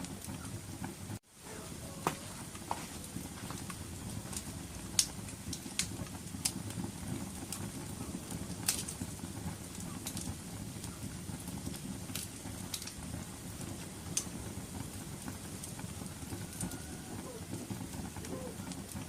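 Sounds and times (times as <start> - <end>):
fire crackling and popping: 0.0 - 19.0
fire flames roaring: 0.0 - 19.0.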